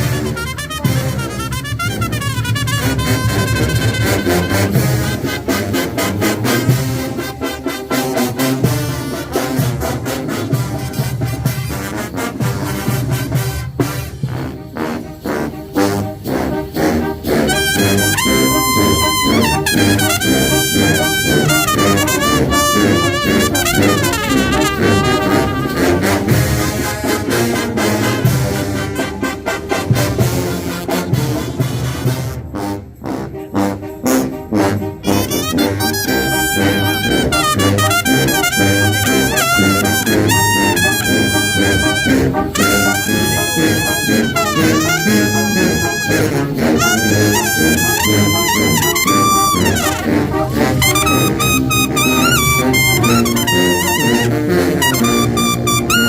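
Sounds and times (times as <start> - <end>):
brass band playing: 0.0 - 56.0
trumpets and trombones melody: 0.0 - 56.0
tubas: 0.0 - 56.0.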